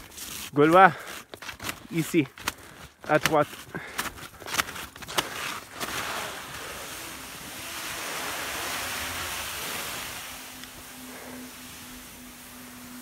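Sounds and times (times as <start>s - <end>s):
skis hissing through snow: 0.0s - 2.2s, 4.8s - 13.0s.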